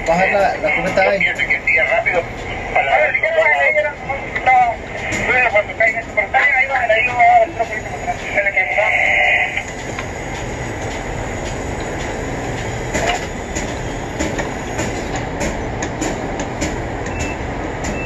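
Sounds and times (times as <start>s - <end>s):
crane machinery rumble and rattle: 0.0s - 18.0s.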